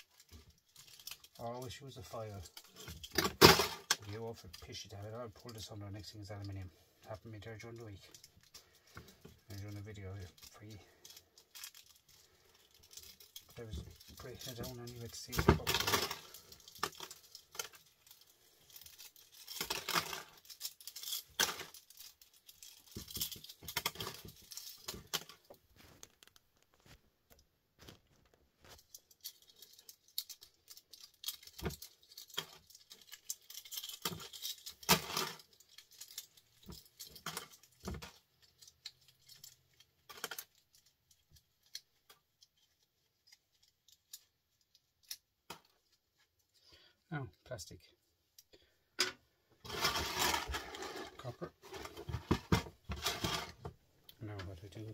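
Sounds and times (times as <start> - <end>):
metal and plastic parts clinking: 0.0 - 28.0, 28.6 - 46.7, 48.3 - 54.9.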